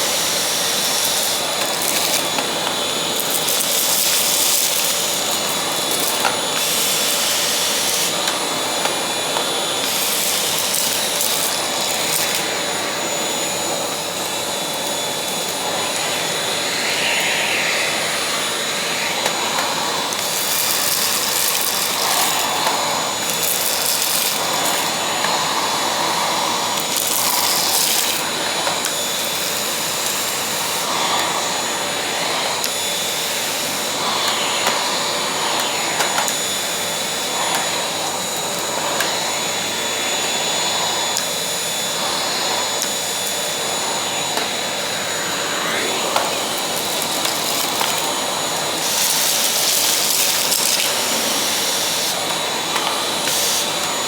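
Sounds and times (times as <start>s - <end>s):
vacuum cleaner whining: 0.0s - 54.0s.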